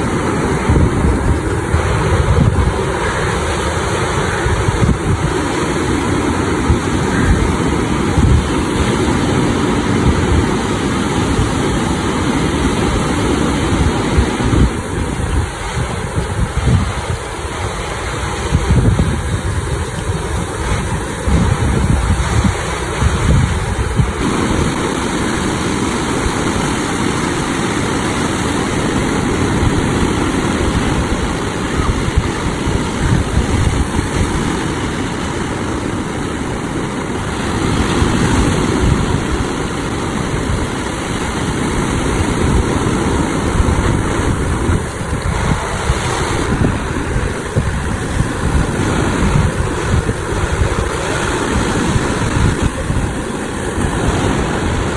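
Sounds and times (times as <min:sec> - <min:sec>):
sea waves breaking: 0:00.0 - 0:54.9
wind rumbling on microphone: 0:00.0 - 0:54.9.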